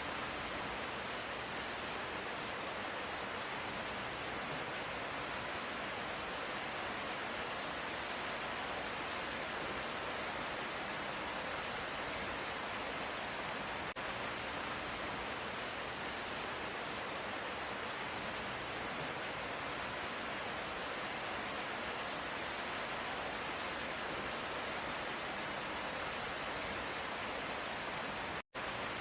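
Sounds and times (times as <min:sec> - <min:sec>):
light rainfall hissing: 0:00.0 - 0:29.0.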